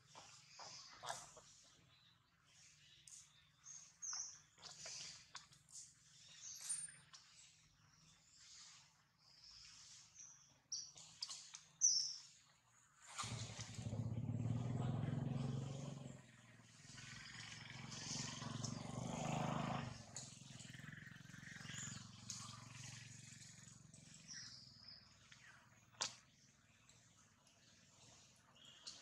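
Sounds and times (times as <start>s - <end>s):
faint high bird chirps: 0.1s - 29.0s.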